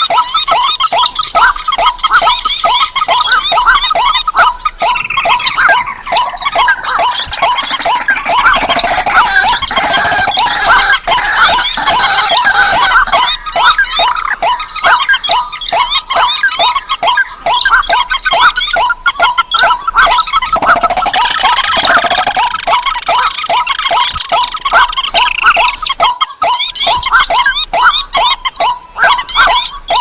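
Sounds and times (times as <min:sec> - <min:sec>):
rails calling: 0:00.0 - 0:30.0.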